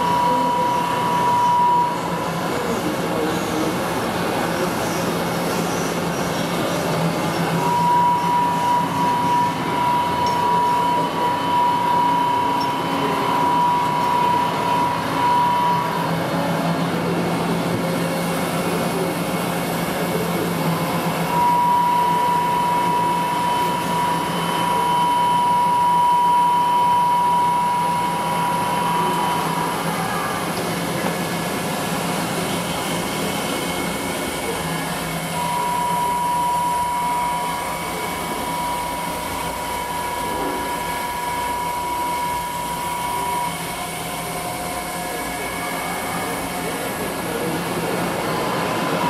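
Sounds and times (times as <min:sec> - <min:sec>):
grinding machine hum and hiss: 0:00.0 - 0:49.0
high machine whine: 0:00.0 - 0:49.0.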